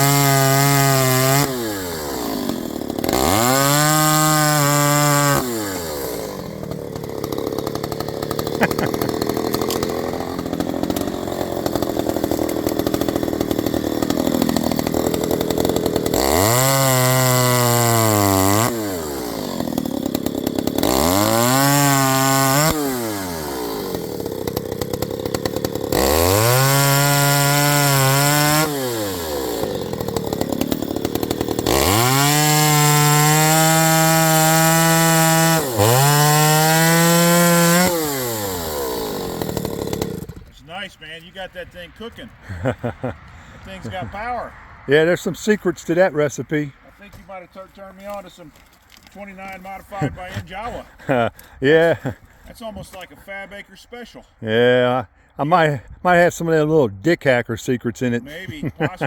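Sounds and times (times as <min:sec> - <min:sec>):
chainsaw revving: 0:00.0 - 0:40.6, 0:42.4 - 0:44.3, 0:44.9 - 0:46.8, 0:47.7 - 0:52.4.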